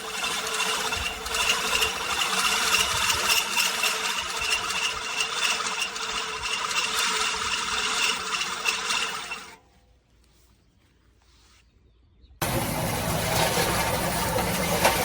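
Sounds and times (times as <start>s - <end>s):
reel mower whirring and clicking: 0.0s - 9.7s, 12.4s - 15.0s.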